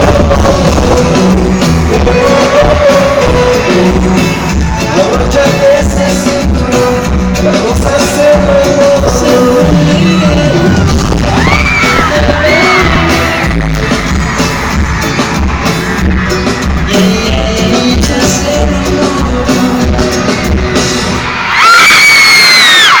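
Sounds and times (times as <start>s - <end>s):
crowd screaming: 0.0s - 6.3s, 7.7s - 23.0s
pop band playing: 0.0s - 23.0s.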